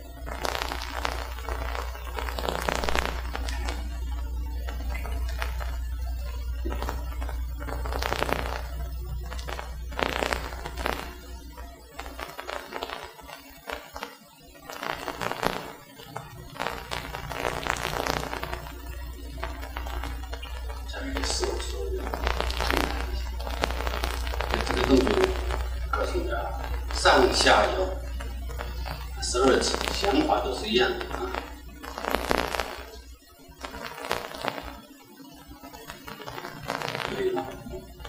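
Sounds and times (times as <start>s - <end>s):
crackling noise: 0.0s - 38.0s
steady low hum: 0.0s - 38.0s.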